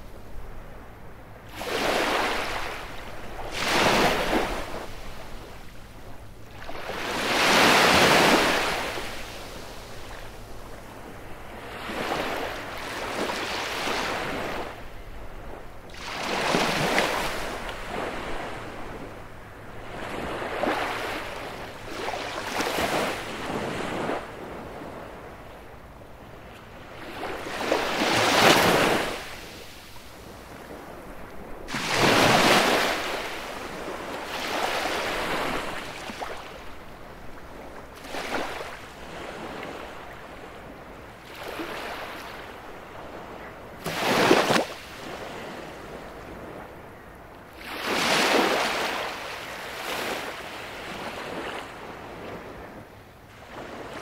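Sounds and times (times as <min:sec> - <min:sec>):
waves breaking on a beach: 0:00.0 - 0:54.0.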